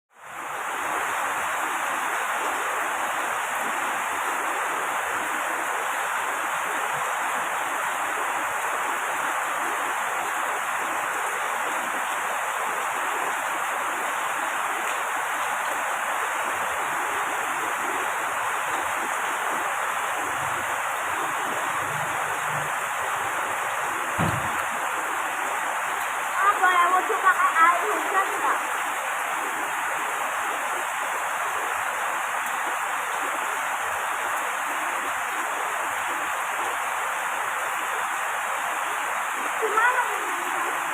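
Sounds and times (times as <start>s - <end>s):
steady rain: 0.1s - 40.9s.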